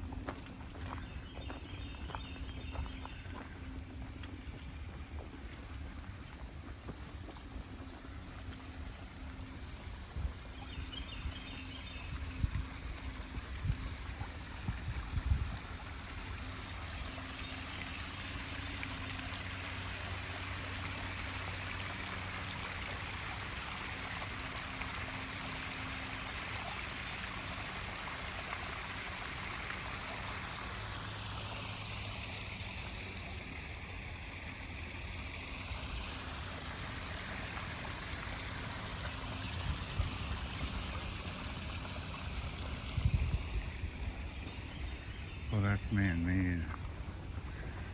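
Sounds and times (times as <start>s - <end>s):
stream babbling: 0.0s - 47.9s.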